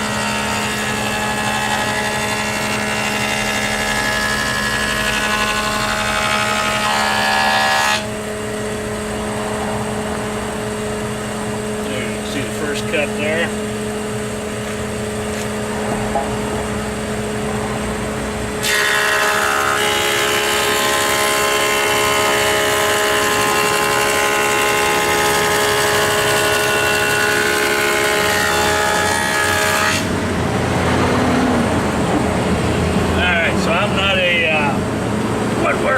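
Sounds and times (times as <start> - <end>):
planer cutting wood whine: 0.0 - 35.9
thickness planer humming: 0.0 - 35.9.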